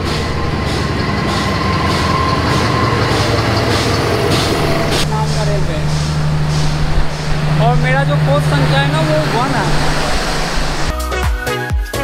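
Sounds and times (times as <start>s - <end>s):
locomotive engine rumble: 0.0s - 10.9s
wheels rolling on rails: 0.0s - 10.9s.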